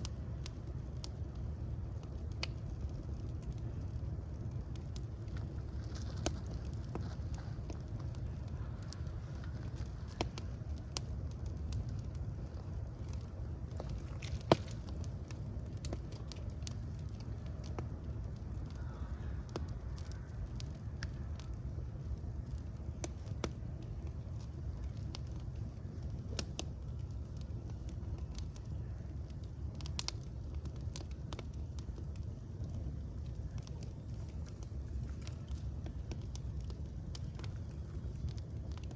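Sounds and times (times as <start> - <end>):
fire crackles and pops: 0.0 - 38.9
fire rumbling: 0.0 - 38.9.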